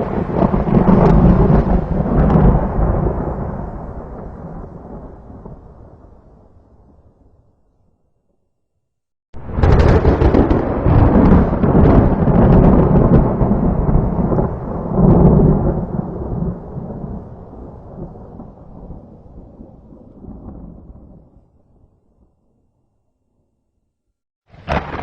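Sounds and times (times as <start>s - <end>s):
thunderclap with rolling rumble: 0.0s - 7.4s, 9.4s - 21.9s, 24.6s - 25.0s.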